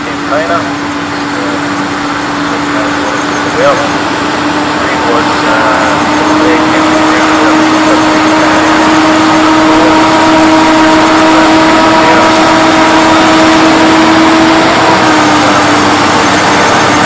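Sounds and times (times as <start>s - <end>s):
tractor diesel engines under load: 0.0s - 17.0s.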